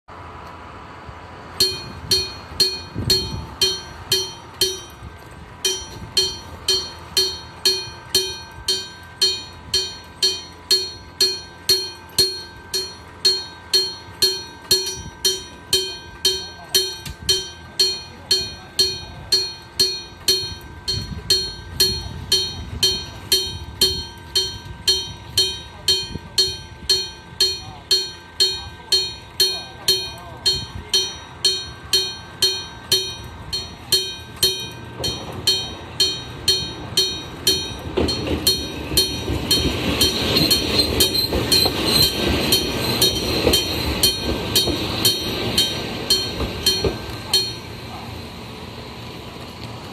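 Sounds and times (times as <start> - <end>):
level crossing warning bell: 1.4 - 49.9.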